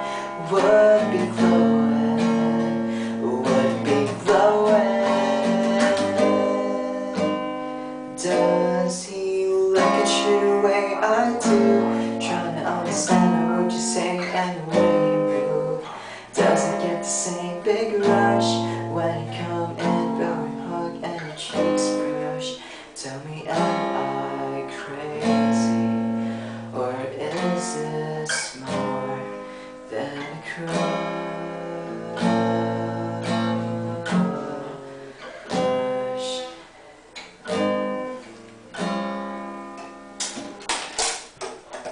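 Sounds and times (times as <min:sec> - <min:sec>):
acoustic guitar strumming chords: 0:00.0 - 0:41.9.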